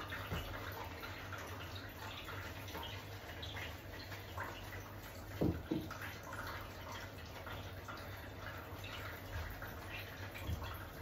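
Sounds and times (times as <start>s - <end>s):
dripping water: 0.0s - 11.0s
wet shampoo washing by hand: 0.0s - 11.0s.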